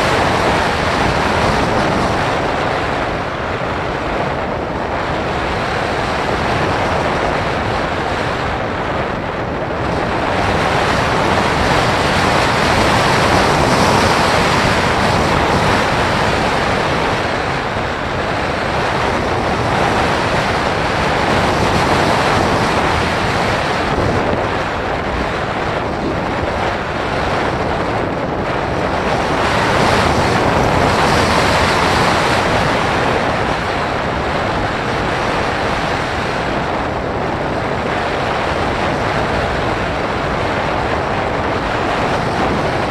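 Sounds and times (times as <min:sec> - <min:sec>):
wind rushing on microphone: 0:00.0 - 0:42.9.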